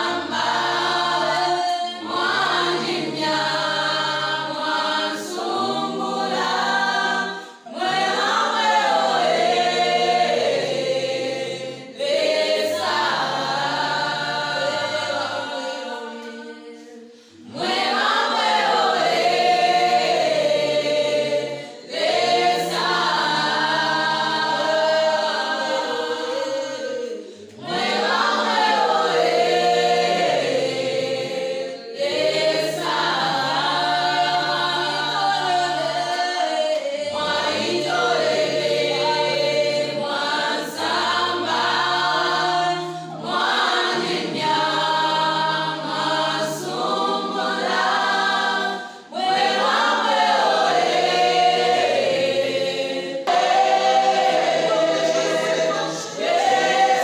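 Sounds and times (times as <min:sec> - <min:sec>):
choir singing unaccompanied: 0:00.0 - 0:57.0.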